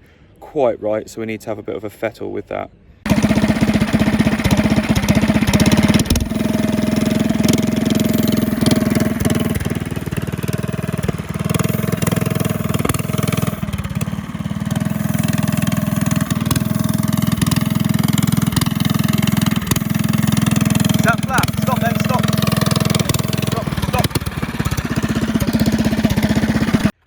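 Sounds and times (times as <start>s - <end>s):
go-kart engine running loud: 3.1s - 27.0s.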